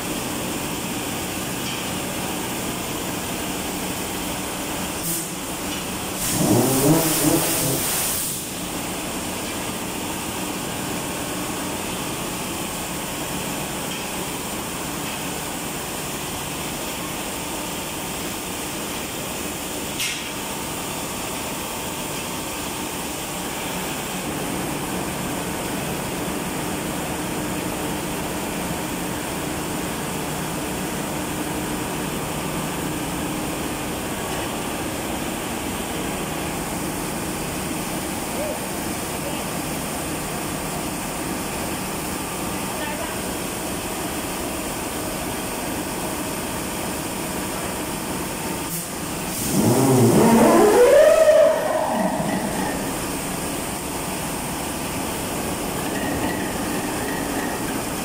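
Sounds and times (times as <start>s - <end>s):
diesel engine running: 0.0s - 42.9s, 43.5s - 58.0s.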